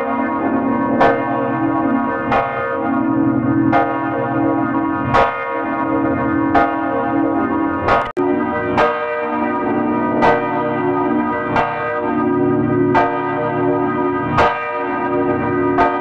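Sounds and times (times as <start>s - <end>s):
bells ringing: 0.0s - 16.0s.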